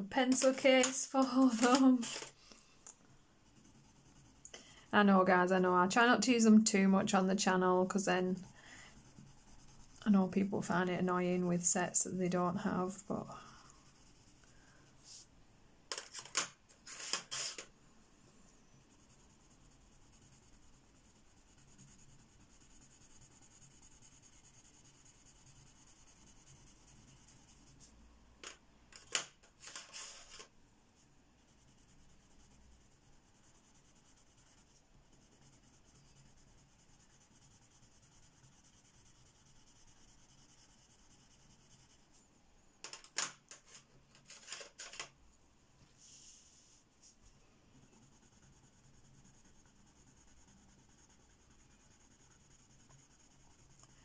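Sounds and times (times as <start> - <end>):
coloured pencil rubbing on paper: 0.3 - 2.4, 3.4 - 15.3, 16.9 - 17.7, 18.5 - 28.0, 29.6 - 30.5, 31.4 - 42.3, 46.0 - 54.0.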